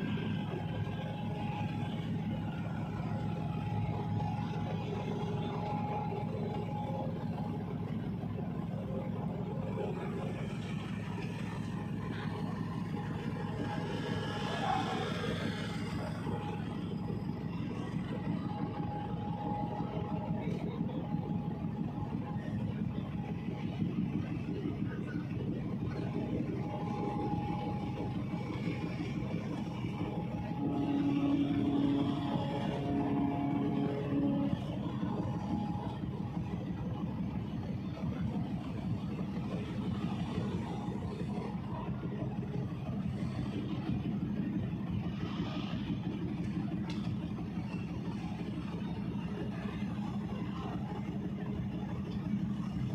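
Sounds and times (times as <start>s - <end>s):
ferry engines droning: 0.0s - 52.9s
steady low tone: 0.0s - 52.9s.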